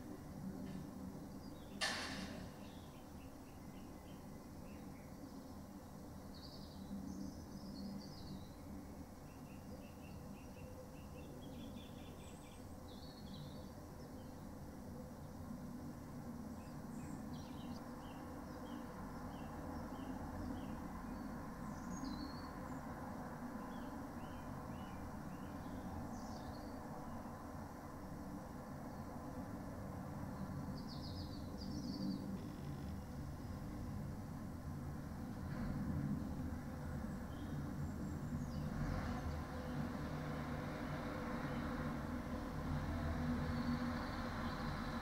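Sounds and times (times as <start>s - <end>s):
low background noise: 0.0s - 45.0s
small birds chirping and trilling: 0.4s - 15.5s, 16.4s - 29.4s, 30.1s - 42.4s, 43.4s - 45.0s.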